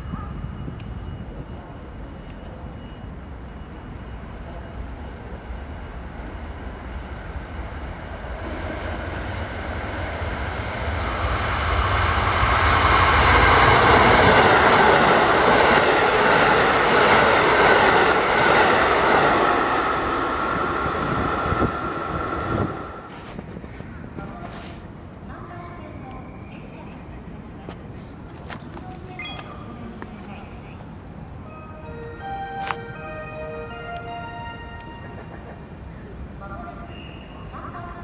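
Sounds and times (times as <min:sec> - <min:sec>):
train passing on rails: 0:00.0 - 0:38.0.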